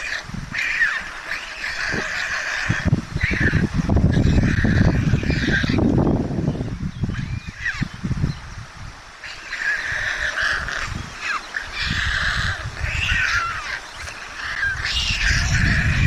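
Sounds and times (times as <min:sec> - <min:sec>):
young storks calling: 0:00.0 - 0:06.0, 0:07.0 - 0:08.0, 0:09.1 - 0:16.0.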